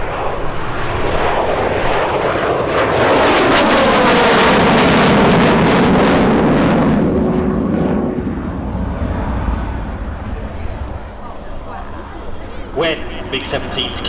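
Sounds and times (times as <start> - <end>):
jet aircraft flying past: 0.0 - 14.0
jet engine whine: 0.0 - 14.0.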